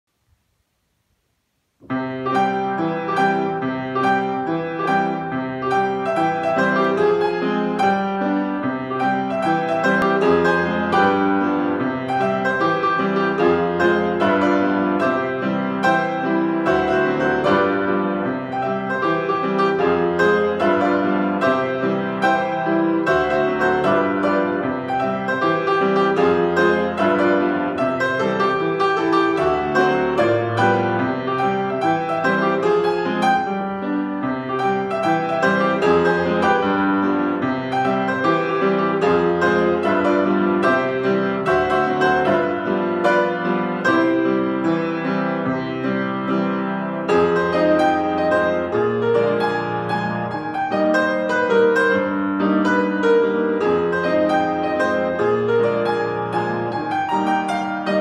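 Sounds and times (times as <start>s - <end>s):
ragtime piano: 1.8s - 58.0s.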